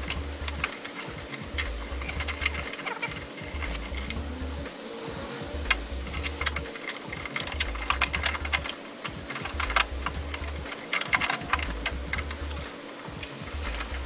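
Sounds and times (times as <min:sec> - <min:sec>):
metal clicking and clinking: 0:00.0 - 0:14.0.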